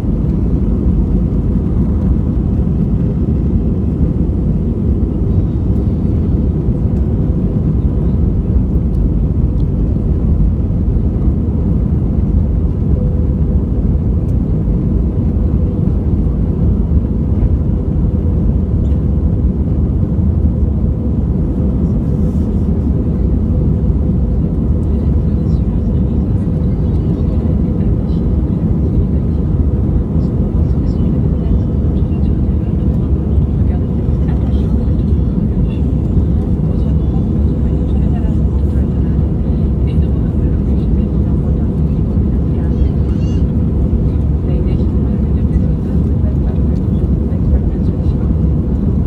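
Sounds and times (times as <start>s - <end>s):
jet engines roaring in cabin: 0.0s - 49.0s.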